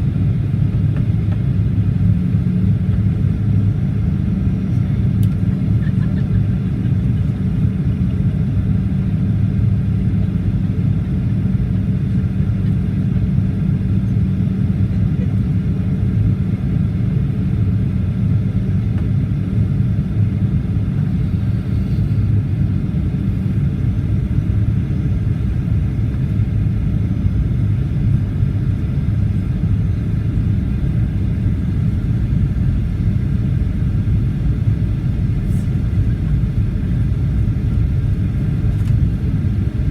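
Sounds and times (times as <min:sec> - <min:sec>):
airplane cabin engine rumble: 0:00.0 - 0:39.9
steady low hum: 0:00.0 - 0:39.9.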